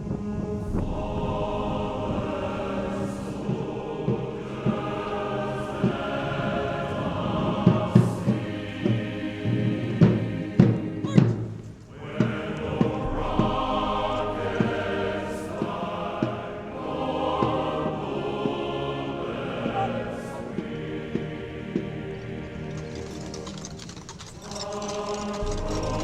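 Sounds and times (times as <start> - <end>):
slow military band music: 0.0 - 26.0.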